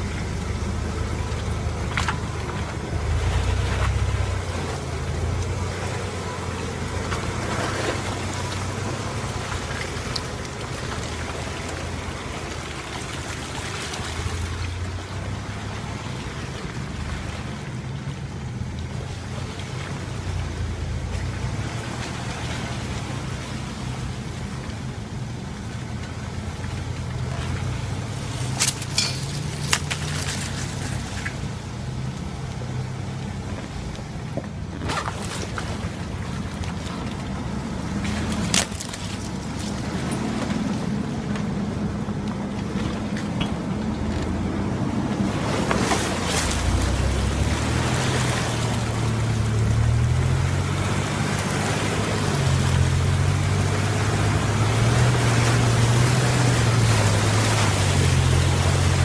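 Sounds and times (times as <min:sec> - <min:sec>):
engine running at low revs: 0:00.0 - 0:59.0
water splashing: 0:00.0 - 0:59.0.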